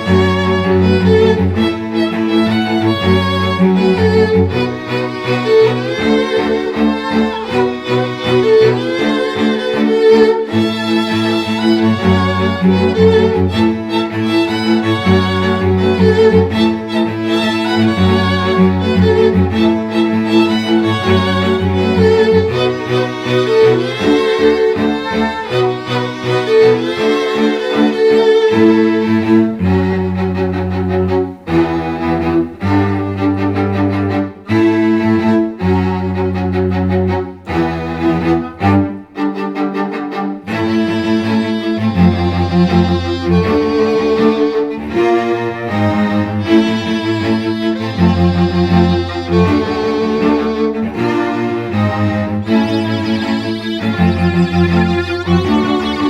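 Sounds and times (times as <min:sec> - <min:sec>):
bowed strings playing chords: 0:00.0 - 0:56.0
cello and violin notes: 0:00.0 - 0:56.0.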